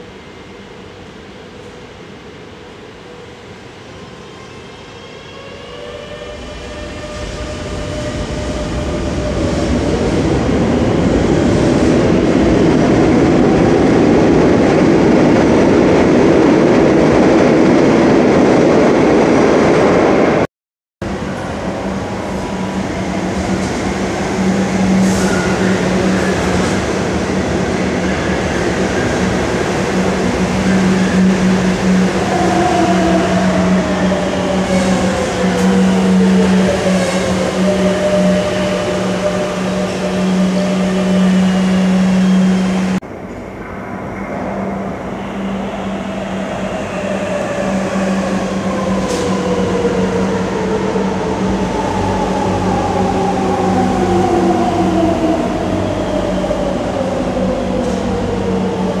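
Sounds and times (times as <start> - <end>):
train running noise with hum: 0.0 - 59.0.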